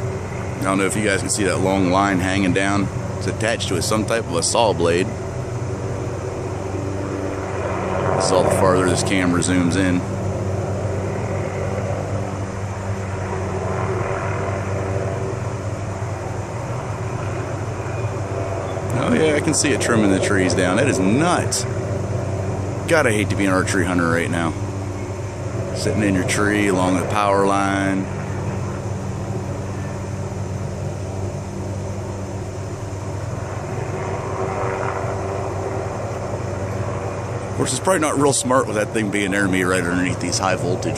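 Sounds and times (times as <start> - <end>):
distant helicopter drone: 0.0 - 40.9.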